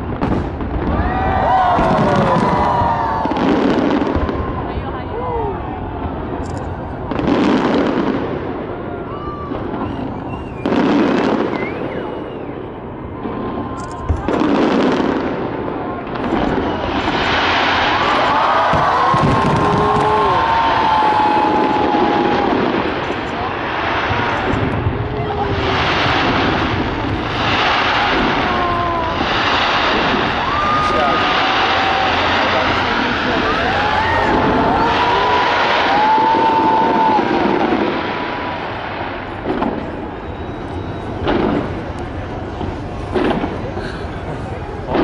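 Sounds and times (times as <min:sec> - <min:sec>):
crowd voices: 0:00.0 - 0:45.0
fireworks bursting and crackling: 0:00.0 - 0:45.0.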